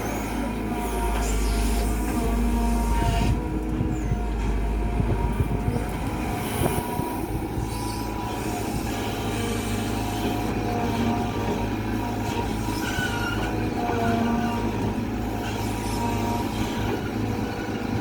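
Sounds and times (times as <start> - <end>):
excavator diesel engine drone: 0.0 - 18.0
hydraulic whine: 0.0 - 18.0.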